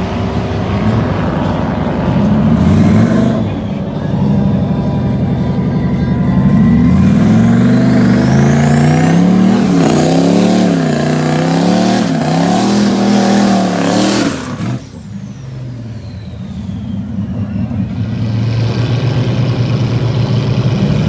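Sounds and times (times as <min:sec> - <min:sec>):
high whine: 0:00.0 - 0:21.0
racing engine revving: 0:00.0 - 0:21.0.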